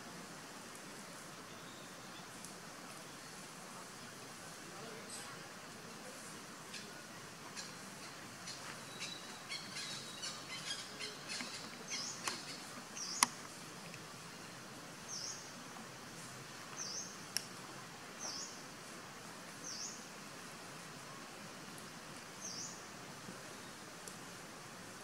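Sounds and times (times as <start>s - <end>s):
faint wild ambience: 0.0s - 25.0s.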